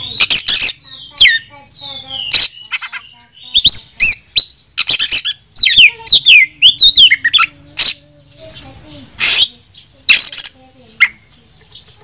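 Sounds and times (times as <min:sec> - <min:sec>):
bird singing whistles and rasps: 0:00.0 - 0:12.0.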